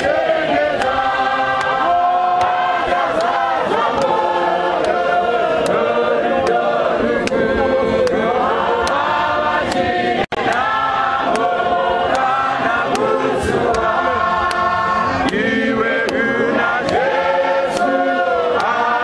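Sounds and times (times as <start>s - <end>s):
congregation singing a hymn: 0.0s - 19.0s
sharp ticks keeping time: 0.0s - 19.0s.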